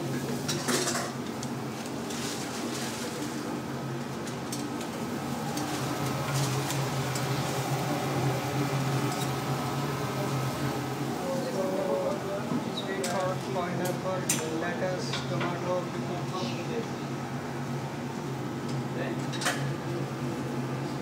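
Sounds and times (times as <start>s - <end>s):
kitchen machinery hum: 0.0s - 21.0s.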